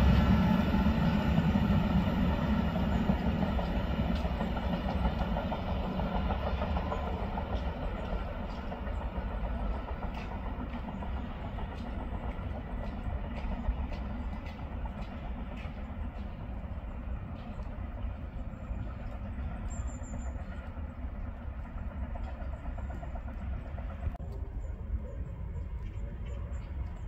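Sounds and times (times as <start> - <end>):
electric train pulling away: 0.0 - 27.0.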